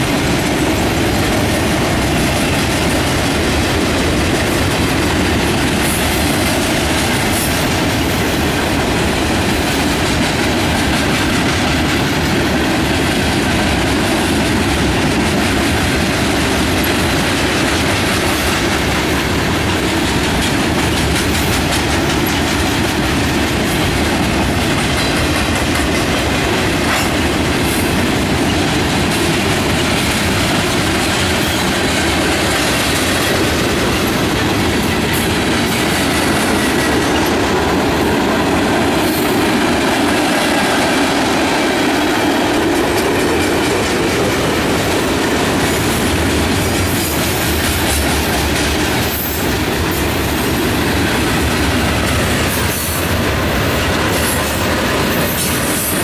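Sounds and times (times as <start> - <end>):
freight train rumbling past: 0.0 - 56.0
wheels clacking over rail joints: 0.0 - 56.0.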